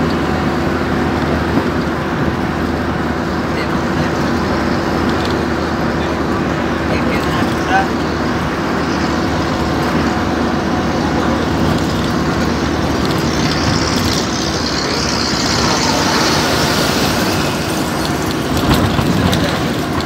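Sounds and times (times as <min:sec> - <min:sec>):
engine hum: 0:00.0 - 0:20.0
tyre and wind noise: 0:00.0 - 0:20.0.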